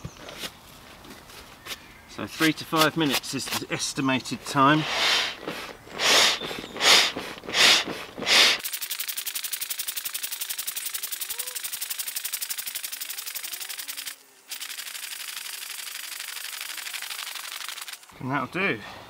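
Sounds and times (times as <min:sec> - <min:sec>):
hand pump air strokes: 0:02.3 - 0:18.1.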